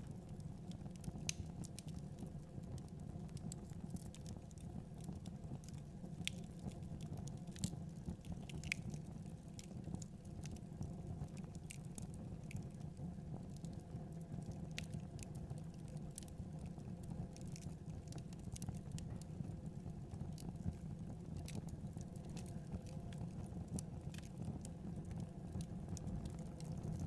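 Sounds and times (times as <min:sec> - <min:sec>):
fire crackling and popping: 0:00.0 - 0:27.0
fire low rumble: 0:00.0 - 0:27.0.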